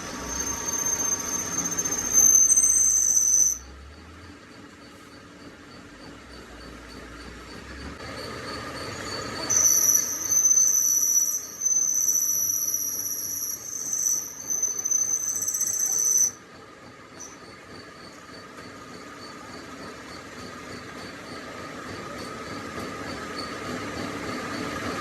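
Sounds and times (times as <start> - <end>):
cutting tool squealing on steel: 0.0 - 3.8, 4.8 - 25.0.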